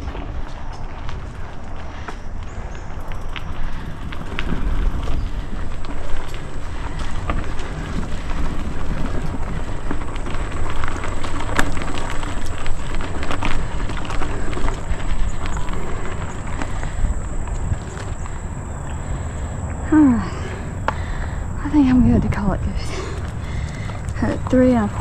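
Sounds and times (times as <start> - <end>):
bike clicks and rattles: 0.0 - 21.6, 22.3 - 25.0
bike tyres crunching on dirt: 0.0 - 25.0
low rumble: 0.0 - 25.0.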